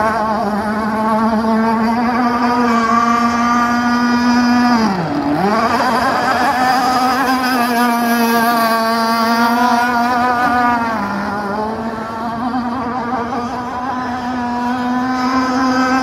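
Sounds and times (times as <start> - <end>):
model speedboat motor whining: 0.0 - 16.0.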